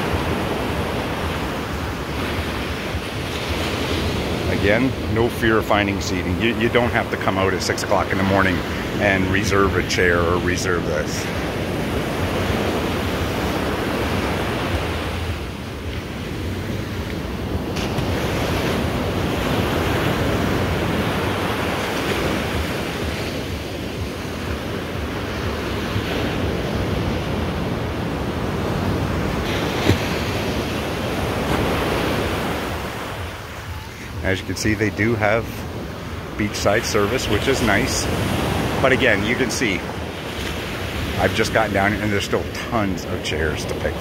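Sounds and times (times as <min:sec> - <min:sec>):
ocean surf on sandy beach: 0:00.0 - 0:44.0.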